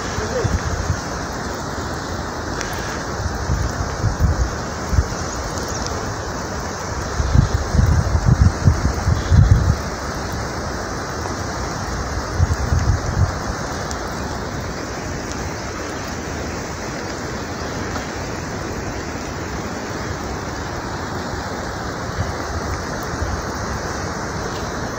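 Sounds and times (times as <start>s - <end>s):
wind buffeting microphone: 0.0s - 1.8s, 2.4s - 24.9s
avalanche snow rushing: 0.0s - 24.9s.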